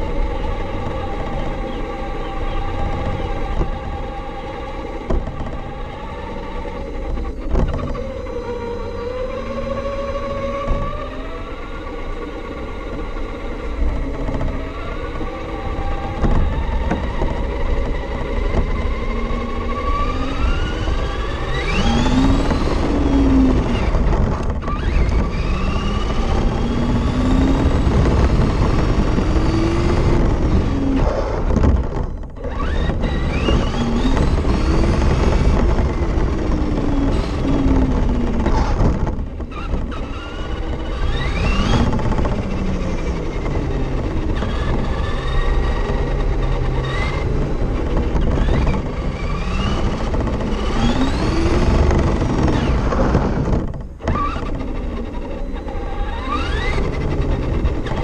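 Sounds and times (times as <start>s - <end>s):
electric motor whining: 0.0s - 58.0s
tyres on pavement: 0.0s - 58.0s
wind rumble: 0.0s - 58.0s.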